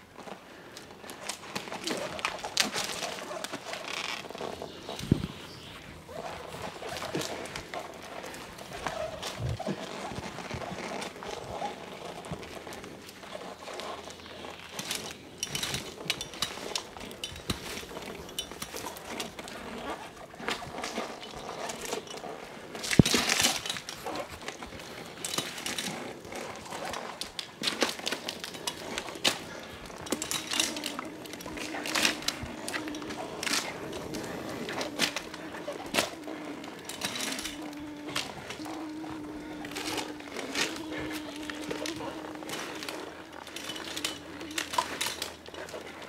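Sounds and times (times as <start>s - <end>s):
rustling and scraping of branches: 0.0s - 46.0s
climbing gear clicks: 0.2s - 46.0s.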